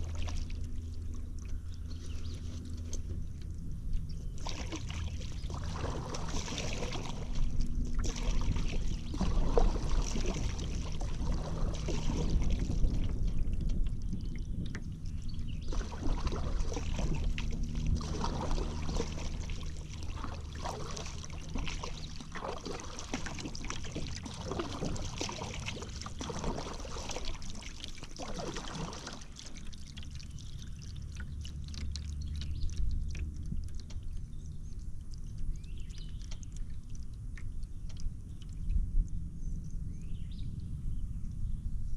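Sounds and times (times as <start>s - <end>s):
paddle strokes in water: 0.0s - 38.8s
water trickling off paddle: 0.0s - 40.3s
low steady rumble: 0.0s - 41.9s.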